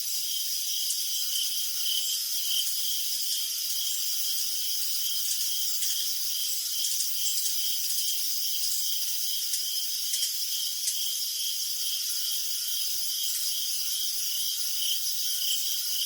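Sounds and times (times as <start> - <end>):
crickets chirping: 0.0 - 16.0
nearby cricket chirps: 0.0 - 16.0.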